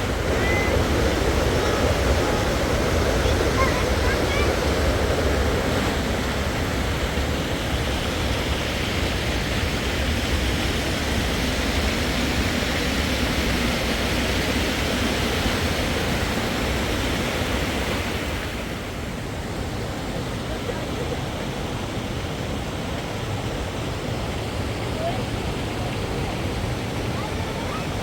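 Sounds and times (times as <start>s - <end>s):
steady outdoor rushing noise: 0.0s - 28.0s.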